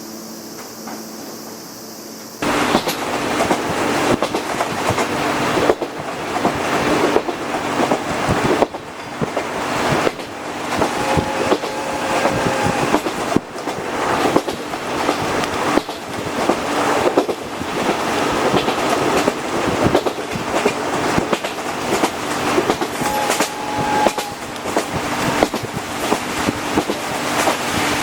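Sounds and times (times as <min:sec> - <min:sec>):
steady rolling rumble of train: 0:00.0 - 0:28.0
train wheels clacking over rail joints: 0:02.4 - 0:28.0.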